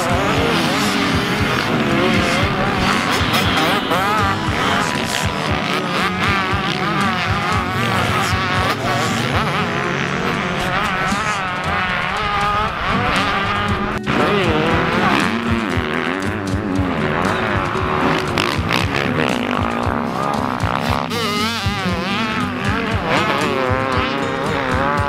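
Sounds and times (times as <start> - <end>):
motocross bikes revving past: 0.0 - 25.0.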